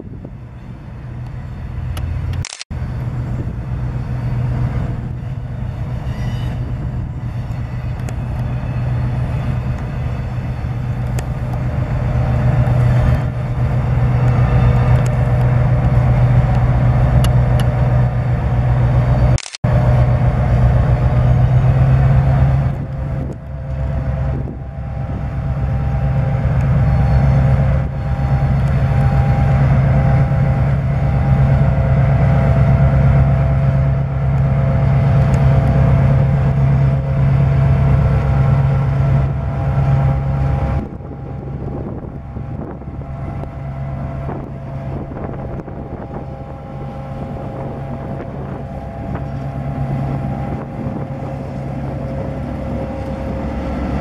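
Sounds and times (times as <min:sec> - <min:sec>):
diesel locomotive engine humming: 0:00.0 - 0:54.0.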